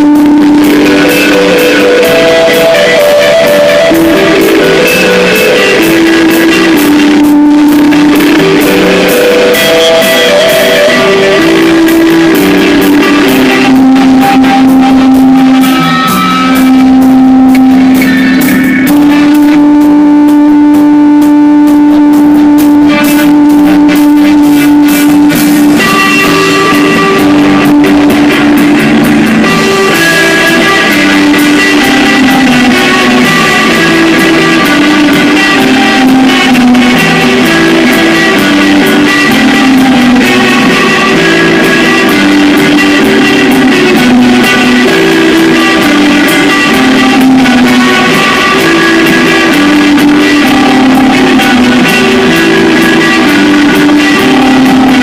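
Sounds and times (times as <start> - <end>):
electric guitar melody: 0.0 - 55.0
rock band playing live: 0.0 - 55.0.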